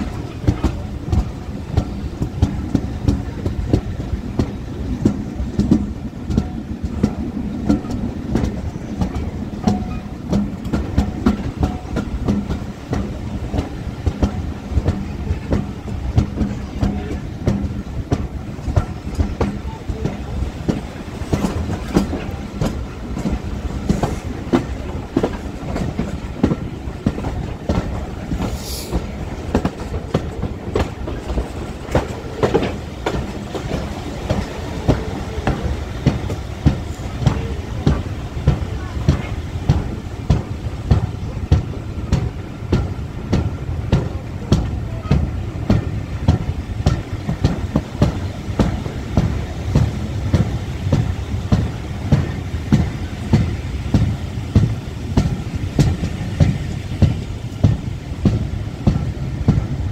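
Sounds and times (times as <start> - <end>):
train rumbling over rails: 0.0 - 59.9.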